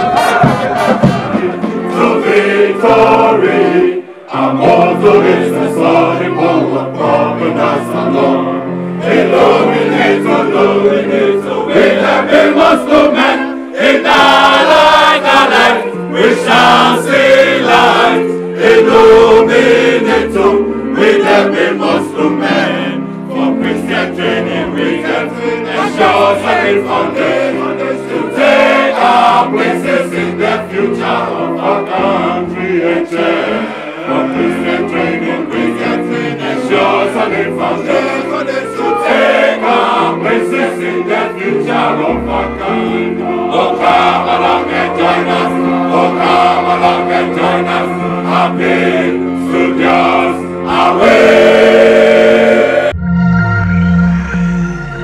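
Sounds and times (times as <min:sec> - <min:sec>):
men singing in chorus: 0:00.0 - 0:53.0.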